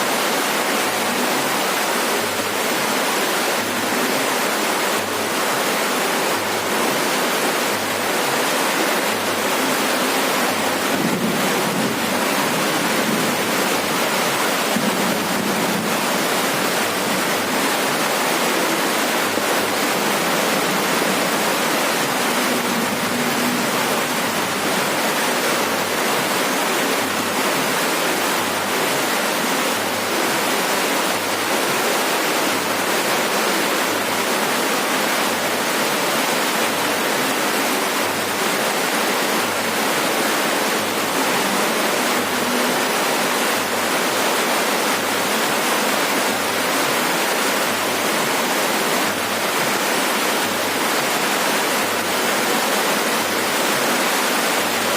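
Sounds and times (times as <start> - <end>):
heavy rain on a roof: 0.0 - 54.9.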